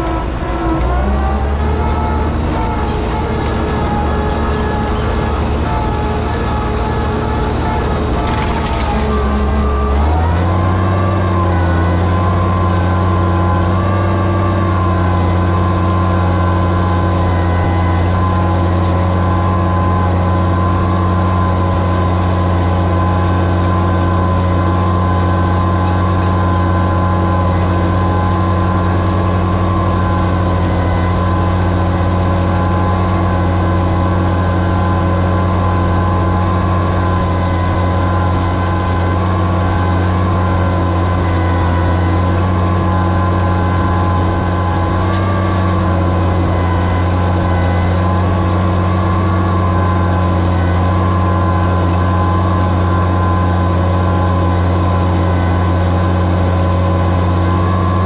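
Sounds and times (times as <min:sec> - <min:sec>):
tractor engine pulling a plow: 0:00.0 - 0:58.0.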